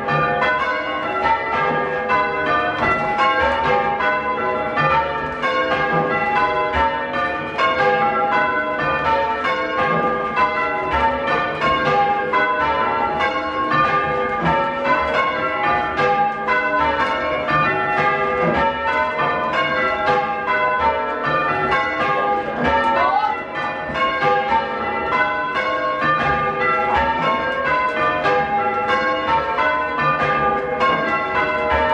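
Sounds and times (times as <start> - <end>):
church bells change ringing: 0.0 - 31.9.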